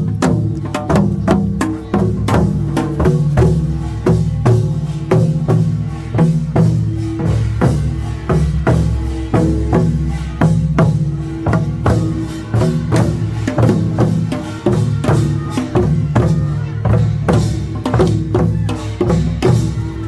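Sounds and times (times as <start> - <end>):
drums beating steadily: 0.0 - 20.0
small gongs clanging: 0.0 - 20.0.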